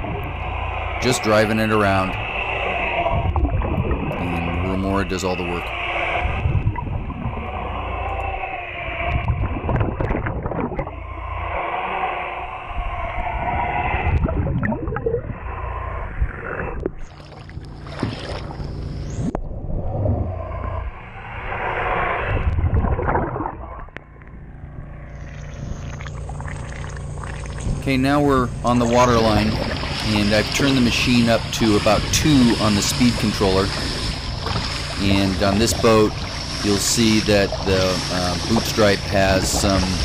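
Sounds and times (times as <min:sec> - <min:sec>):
underwater rotary brush motor: 0:00.0 - 0:14.4, 0:15.2 - 0:19.4, 0:23.8 - 0:40.0
water splashing: 0:00.0 - 0:15.8, 0:16.7 - 0:19.6, 0:22.0 - 0:24.2, 0:25.2 - 0:40.0.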